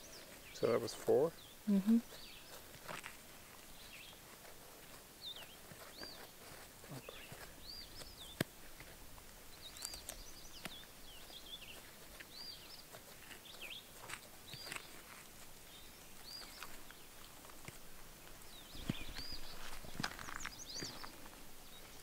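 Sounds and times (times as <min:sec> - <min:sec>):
faint outdoor background noise: 0:00.0 - 0:22.0
small birds chirping: 0:00.0 - 0:22.0.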